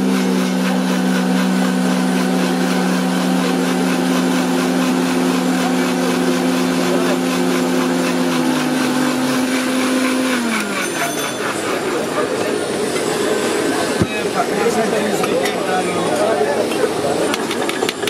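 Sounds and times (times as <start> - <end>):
electric blender motor running: 0.0 - 15.4.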